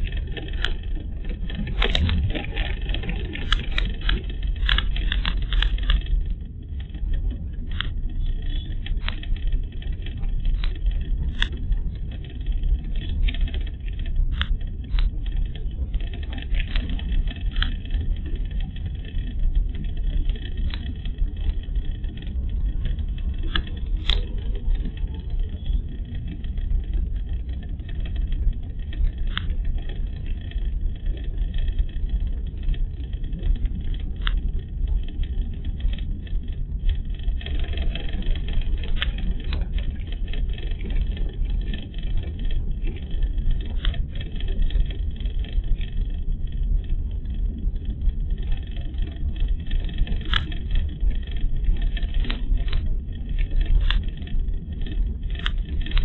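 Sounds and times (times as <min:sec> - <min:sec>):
car engine and tyres rumbling: 0:00.0 - 0:56.0
light clicks and rattles: 0:00.0 - 0:56.0.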